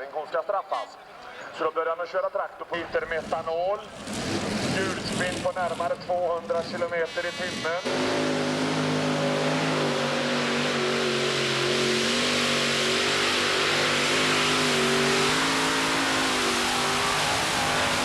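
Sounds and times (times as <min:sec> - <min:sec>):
pulling tractor engine at full power: 0:02.8 - 0:18.0.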